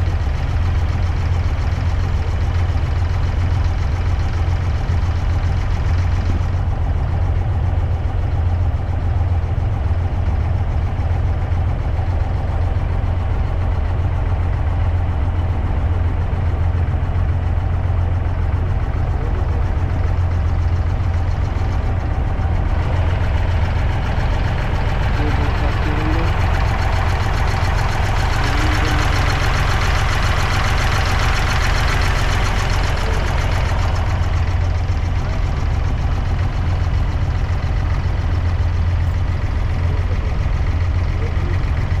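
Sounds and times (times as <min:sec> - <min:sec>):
boat diesel engine idling: 0:00.0 - 0:42.0.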